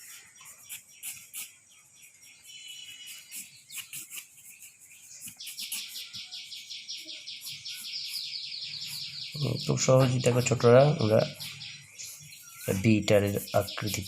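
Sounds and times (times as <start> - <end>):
bird chirping and trilling: 0.0 - 14.0.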